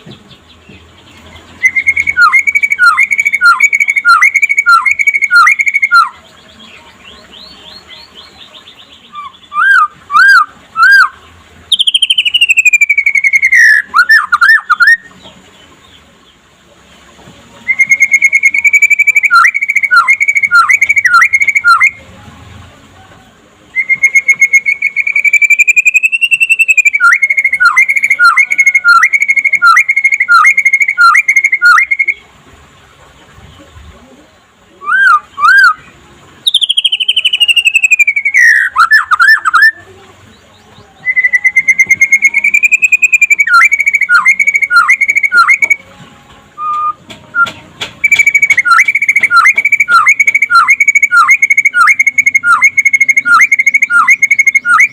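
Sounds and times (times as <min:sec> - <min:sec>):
bird singing whistled phrases: 0:01.5 - 0:15.1, 0:17.6 - 0:22.0, 0:23.7 - 0:32.3, 0:34.8 - 0:45.8, 0:46.6 - 0:54.9.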